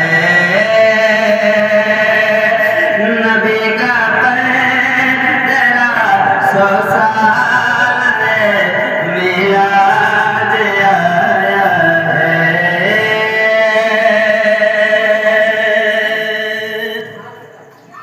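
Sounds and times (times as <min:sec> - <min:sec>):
person singing: 0:00.0 - 0:17.4.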